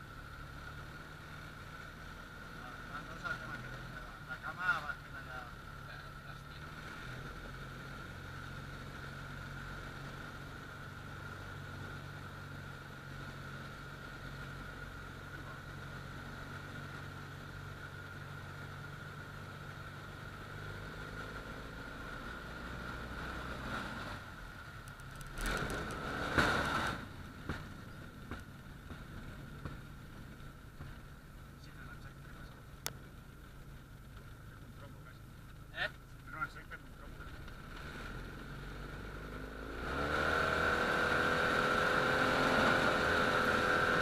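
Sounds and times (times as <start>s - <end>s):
light aircraft engine and propeller: 0.0s - 21.2s, 24.2s - 44.0s.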